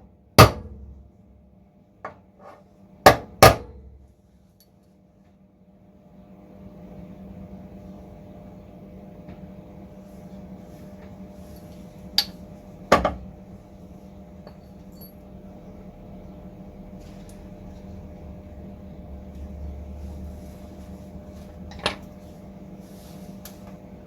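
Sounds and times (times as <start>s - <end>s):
electrical hum of equipment: 0.0s - 24.0s.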